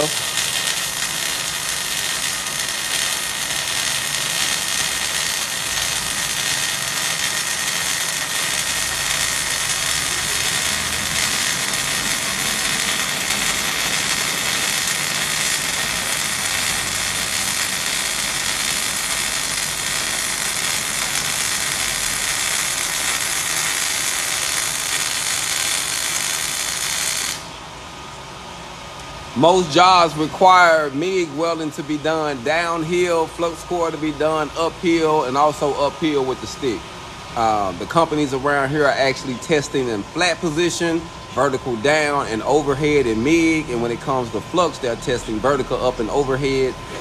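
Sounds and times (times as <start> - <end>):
welding arc sizzling crackle: 0.0 - 47.0.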